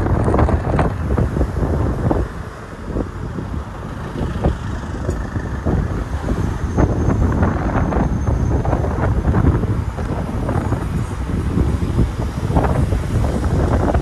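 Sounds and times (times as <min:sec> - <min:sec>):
car road and engine noise: 0:00.0 - 0:14.0
wind buffeting microphone: 0:00.0 - 0:14.0.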